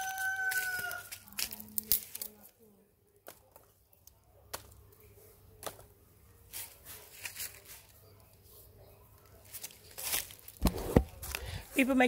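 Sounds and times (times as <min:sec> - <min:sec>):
dry leaves and twigs crackling: 0:00.0 - 0:12.0.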